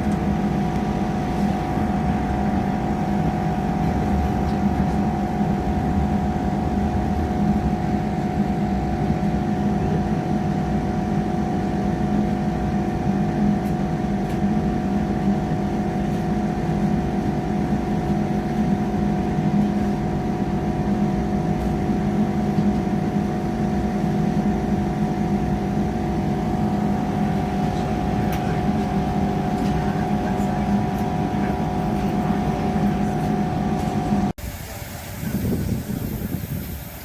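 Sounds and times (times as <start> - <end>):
diesel train engine hum: 0.0 - 37.0.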